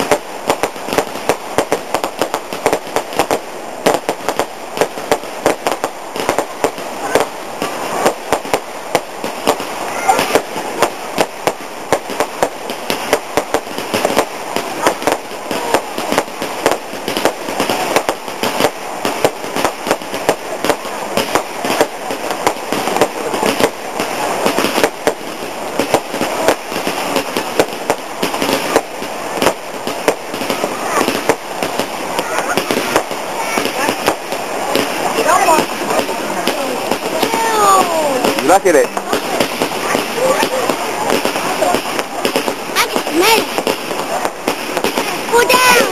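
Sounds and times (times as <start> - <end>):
fireworks bangs and crackles: 0.0 - 45.9
steady background hiss: 0.0 - 45.9.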